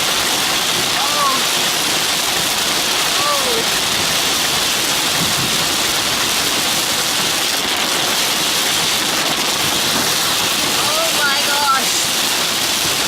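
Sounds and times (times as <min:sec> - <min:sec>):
heavy rain on car: 0:00.0 - 0:13.0.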